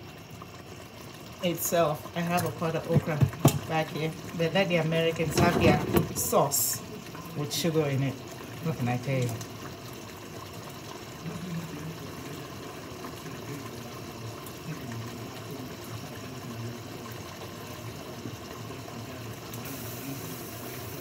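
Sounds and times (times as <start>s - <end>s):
pots boiling and bubbling: 0.0s - 21.0s.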